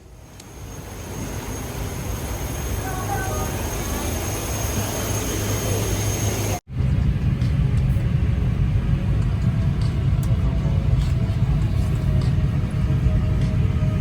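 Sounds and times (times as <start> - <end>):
airliner cabin air conditioning rumble: 0.0 - 14.0.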